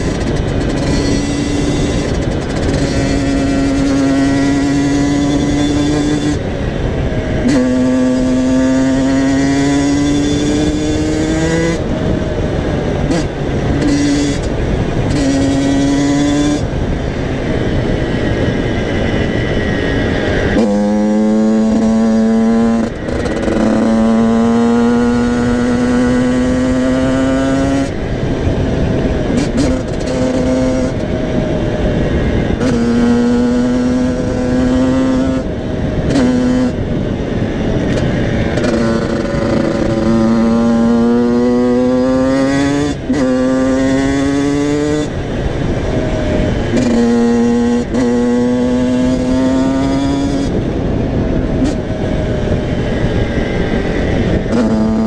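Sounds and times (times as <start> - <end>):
motorcycle engine accelerating: 0.0 - 55.0
wind on microphone: 0.0 - 55.0.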